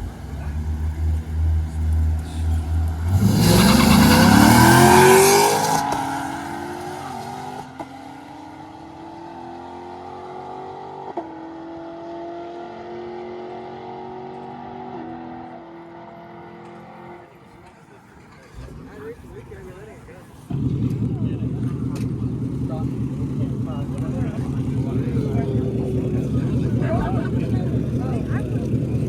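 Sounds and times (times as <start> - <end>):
car engine revving and upshifting: 0.0 - 17.4, 20.5 - 29.0.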